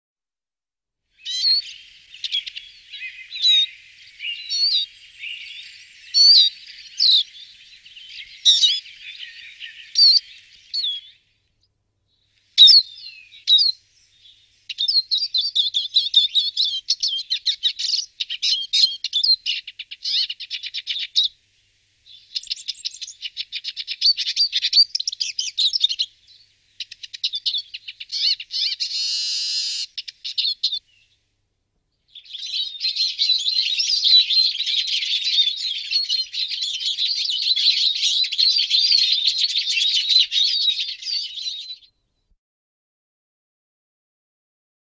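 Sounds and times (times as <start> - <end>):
siskin twittering song: 1.2 - 11.3, 12.6 - 21.4, 22.1 - 31.2, 32.1 - 41.9.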